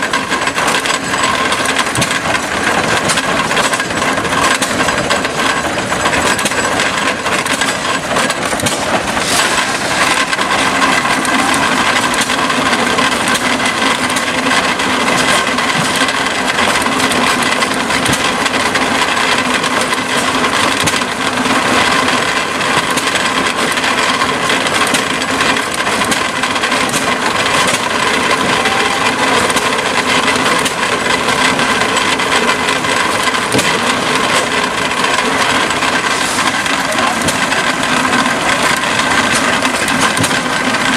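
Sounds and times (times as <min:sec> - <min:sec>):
feed grinder running: 0:00.0 - 0:40.9
kernels rattling through mill: 0:00.0 - 0:40.9.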